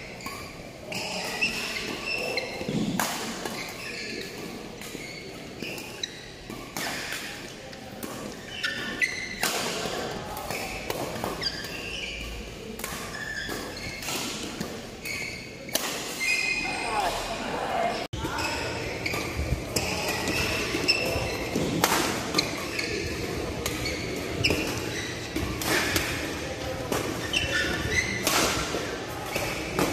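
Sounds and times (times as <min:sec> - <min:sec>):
shoes squeaking on court floor: 0:00.0 - 0:29.9.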